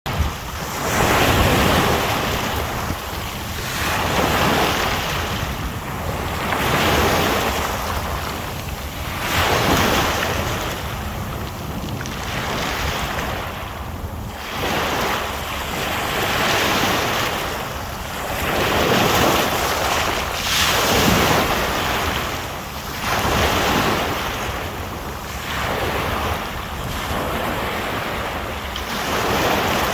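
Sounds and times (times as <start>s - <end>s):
sea waves washing ashore: 0.1s - 29.9s.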